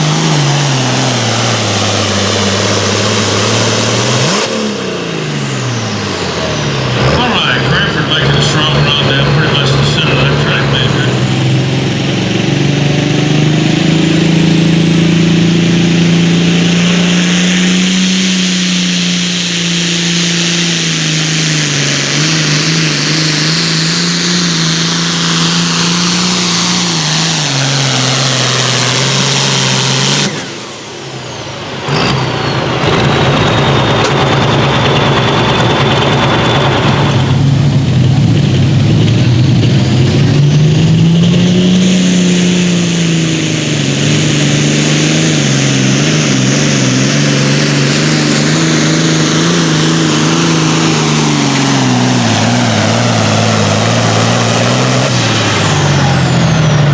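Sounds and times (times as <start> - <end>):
engine running at high revs: 0.0 - 56.9.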